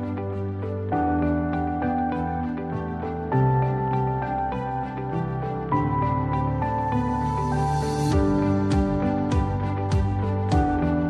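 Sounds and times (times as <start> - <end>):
gentle background music: 0.0 - 11.0.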